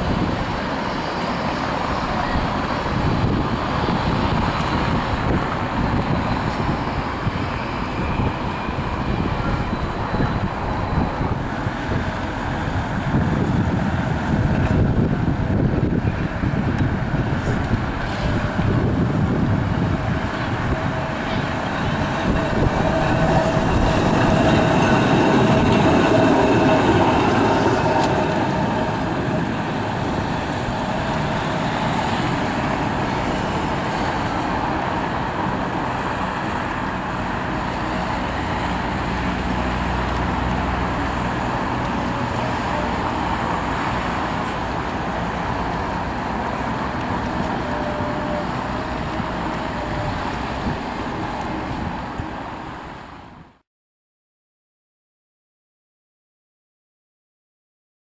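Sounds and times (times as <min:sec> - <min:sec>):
road traffic: 0:00.0 - 0:53.6
tram wheels rumbling on rails: 0:00.0 - 0:53.6.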